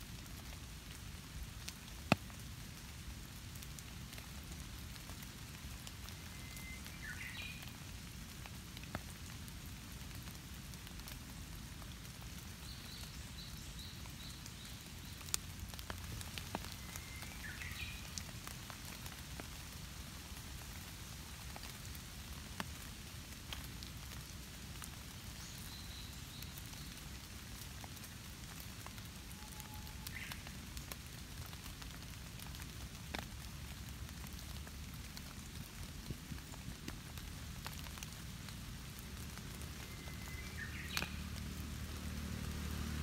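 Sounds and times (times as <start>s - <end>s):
rain pattering: 0.0s - 43.0s.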